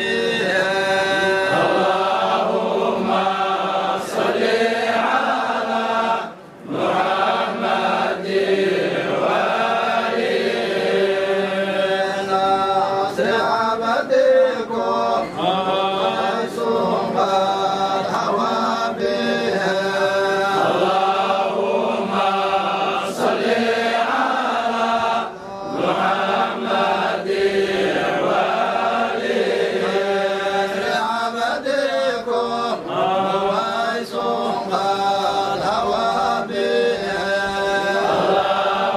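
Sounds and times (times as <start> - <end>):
group chanting in unison: 0.0 - 38.9.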